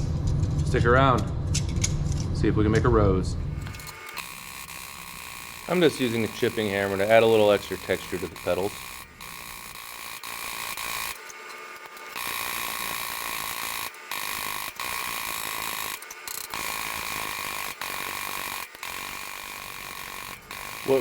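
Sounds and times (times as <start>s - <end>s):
chipping hammer tapping on steel: 3.6s - 21.0s.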